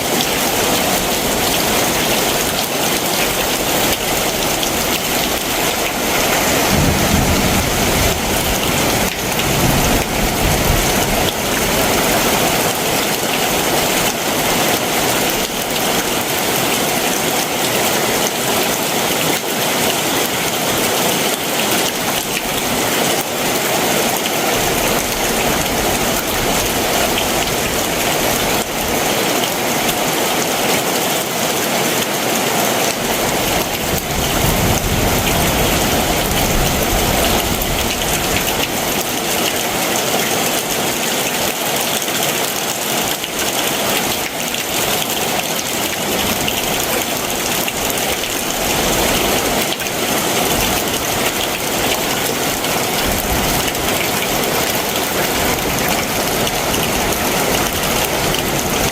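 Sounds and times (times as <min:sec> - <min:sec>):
heavy rain hissing: 0:00.1 - 0:29.7, 0:33.0 - 0:58.9.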